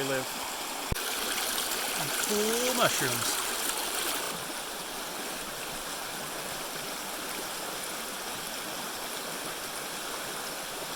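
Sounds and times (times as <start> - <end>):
creek water rushing: 0.0 - 10.9.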